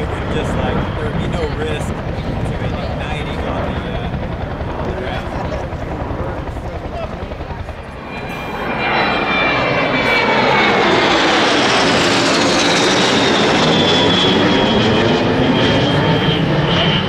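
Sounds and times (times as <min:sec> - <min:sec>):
jet planes passing overhead: 0:00.0 - 0:17.0.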